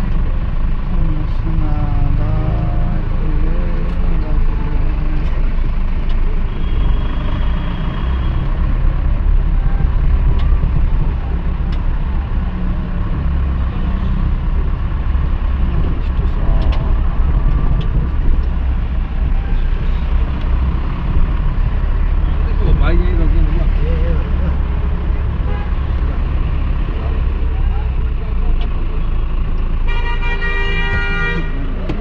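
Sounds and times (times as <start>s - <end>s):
engine and road rumble: 0.0s - 32.0s.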